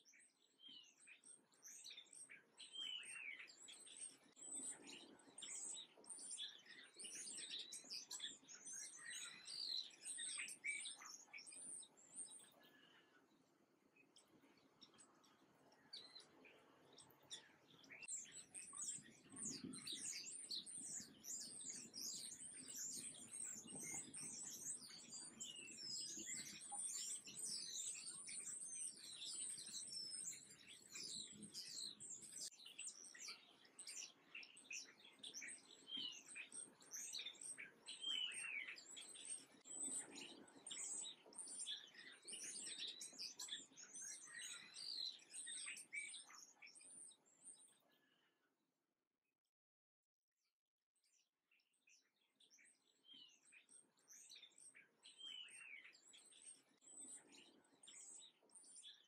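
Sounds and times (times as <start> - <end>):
finches and sparrows chirping: 0.0 - 48.6, 51.0 - 59.0.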